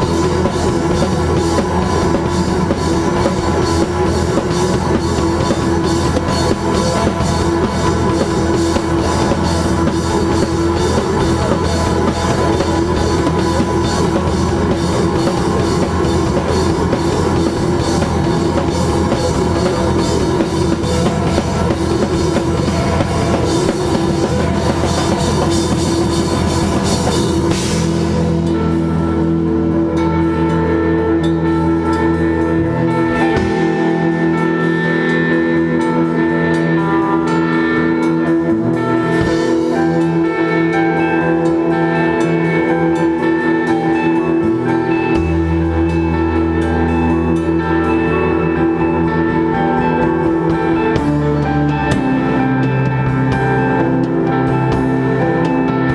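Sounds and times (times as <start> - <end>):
bass guitar: 0.0 - 55.9
drum kit and cymbals: 0.0 - 55.9
electric guitars: 0.0 - 55.9.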